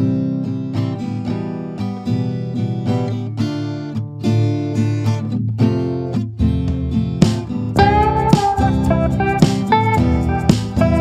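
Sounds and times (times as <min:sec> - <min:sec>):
plucked acoustic guitar music: 0:00.0 - 0:11.0.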